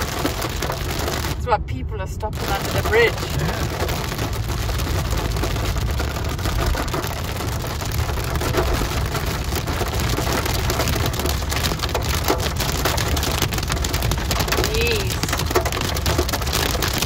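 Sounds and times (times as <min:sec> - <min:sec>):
car driving on wet road: 0:00.0 - 0:17.0
hail and rain on car: 0:00.0 - 0:17.0.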